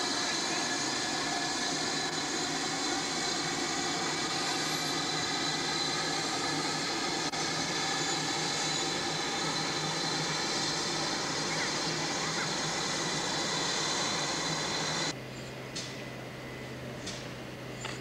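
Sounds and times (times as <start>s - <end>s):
steam locomotive hissing roar: 0.0s - 15.2s.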